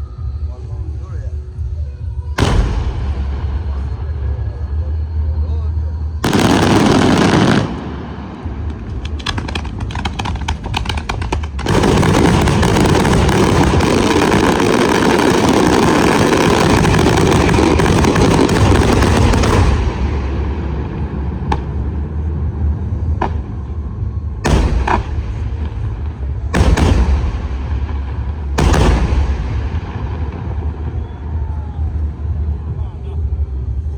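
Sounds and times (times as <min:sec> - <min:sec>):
fireworks bangs and cracks: 0:02.4 - 0:04.5, 0:06.2 - 0:32.7.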